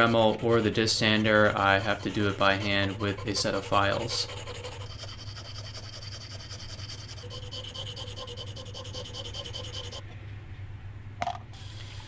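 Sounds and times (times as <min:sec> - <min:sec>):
hand file scraping: 0:00.0 - 0:10.0.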